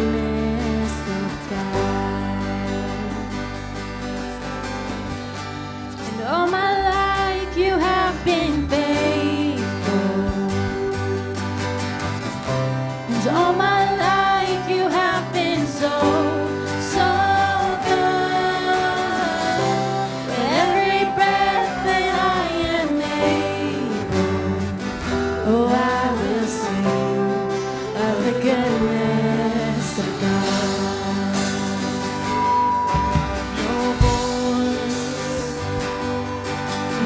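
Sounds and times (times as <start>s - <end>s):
person singing worship song: 0.0s - 3.8s, 6.0s - 11.9s, 12.9s - 37.0s
band with guitar: 0.0s - 37.0s.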